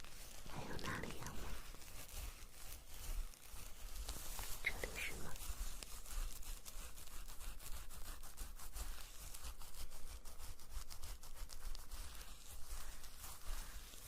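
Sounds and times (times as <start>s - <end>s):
crisp scratching and crackling clicks: 0.0s - 14.0s.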